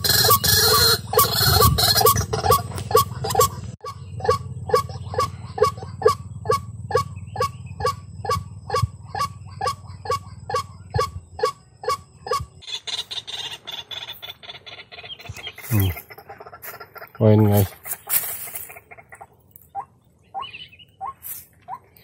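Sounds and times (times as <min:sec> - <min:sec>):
waterhen honking calls: 0:00.0 - 0:21.9.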